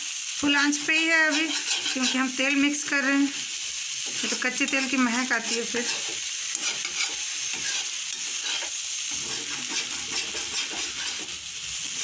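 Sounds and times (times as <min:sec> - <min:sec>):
potatoes sizzling in hot oil: 0:00.0 - 0:12.0
spatula stirring and scraping: 0:00.8 - 0:12.0.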